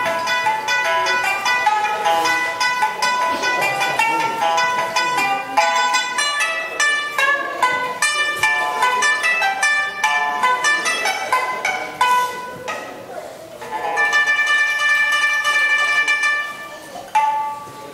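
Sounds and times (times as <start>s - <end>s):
plucked lute notes: 0.0s - 17.9s.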